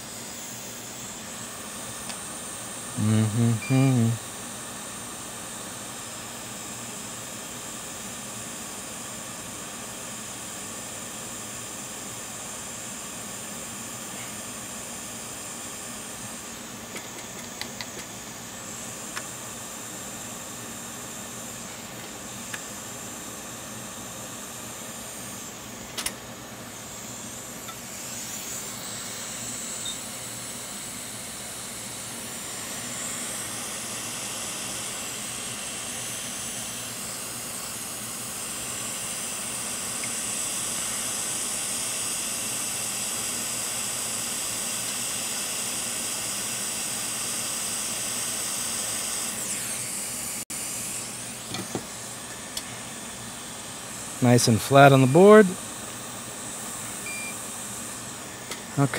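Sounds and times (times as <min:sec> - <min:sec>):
hot air station hissing: 0:00.0 - 0:07.4, 0:13.1 - 0:58.9.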